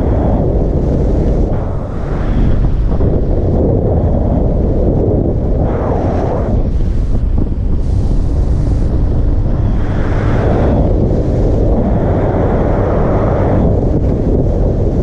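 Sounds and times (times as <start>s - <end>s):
road and vehicle noise: 0.0s - 15.0s
wind buffeting on microphone: 0.0s - 15.0s.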